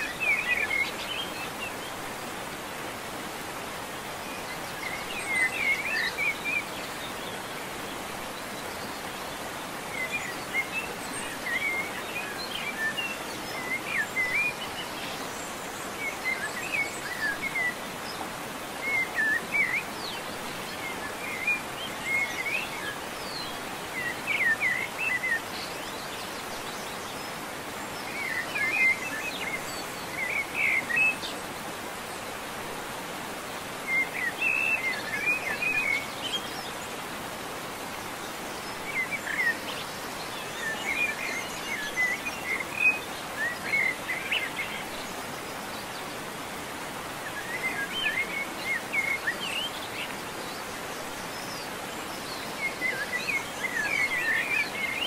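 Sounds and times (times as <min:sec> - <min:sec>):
small birds chirping: 0:00.0 - 0:55.0
steady background hiss: 0:00.0 - 0:55.0.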